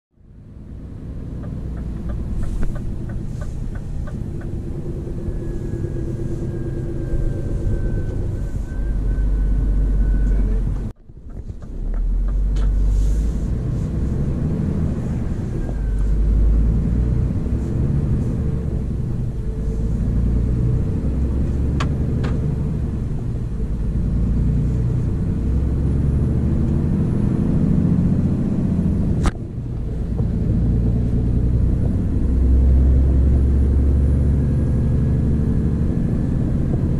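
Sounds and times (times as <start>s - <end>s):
truck diesel engine rumbling: 0.2s - 36.9s.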